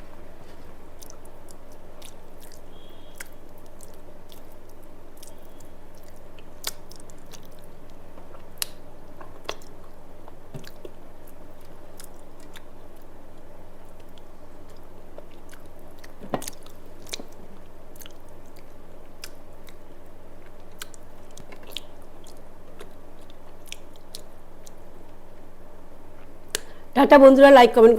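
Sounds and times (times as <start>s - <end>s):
steady low hum: 0.0s - 27.9s
person chewing with wet smacks: 0.1s - 26.8s.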